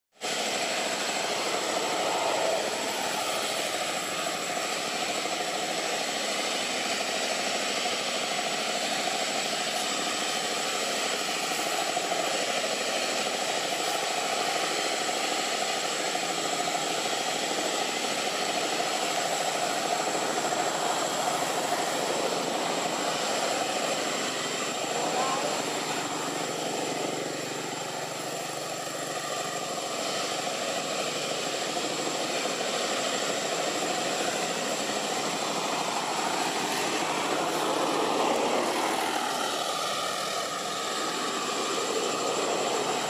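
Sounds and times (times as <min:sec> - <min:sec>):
outdoor hiss: 0:00.2 - 0:43.0
thin high steady tone: 0:00.2 - 0:43.0.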